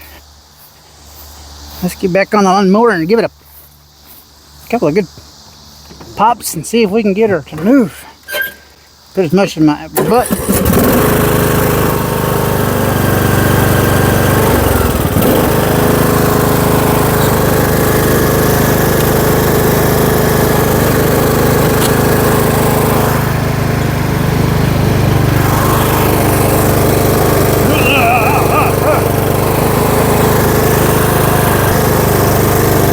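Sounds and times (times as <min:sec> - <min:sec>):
riding lawn mower engine: 0:05.9 - 0:32.9.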